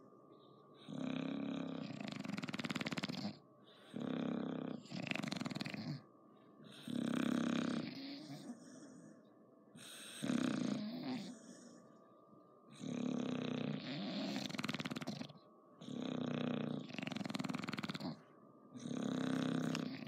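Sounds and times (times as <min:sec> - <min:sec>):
dog snoring loudly: 0:00.8 - 0:09.2, 0:09.8 - 0:11.8, 0:12.7 - 0:20.0.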